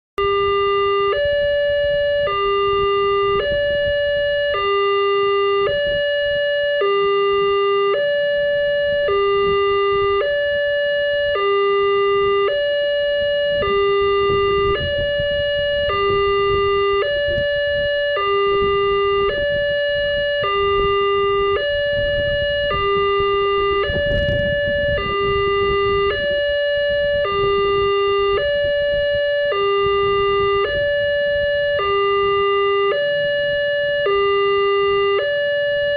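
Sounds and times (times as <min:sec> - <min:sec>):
crossing alarm two-tone chime: 0:00.2 - 0:35.9.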